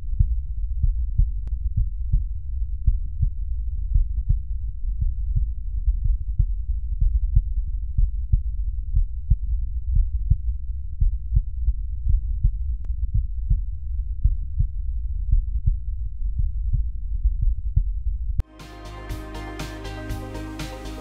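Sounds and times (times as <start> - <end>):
heartbeat through stethoscope: 0.0 - 18.5.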